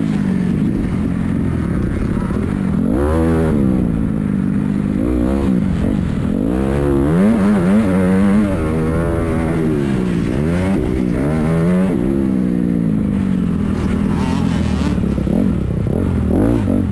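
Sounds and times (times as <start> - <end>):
dirt bike engines revving: 0.0 - 16.9.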